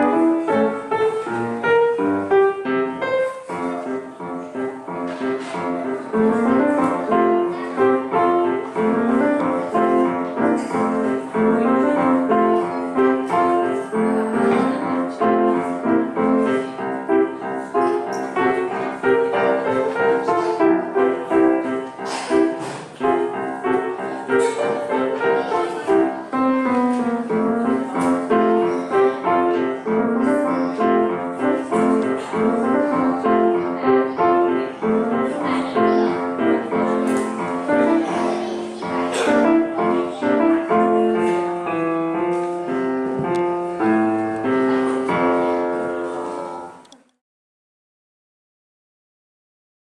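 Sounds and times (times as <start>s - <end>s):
brisk piano piece: 0.0s - 47.0s.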